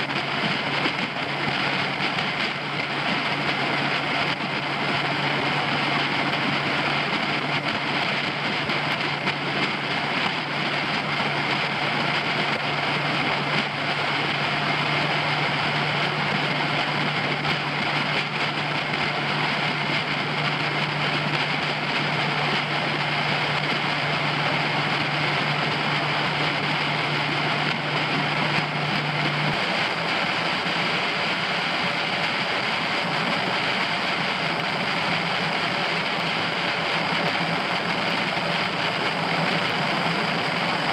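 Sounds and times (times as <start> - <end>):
outboard motor running: 0.0 - 40.9
wind and water rushing: 0.0 - 40.9.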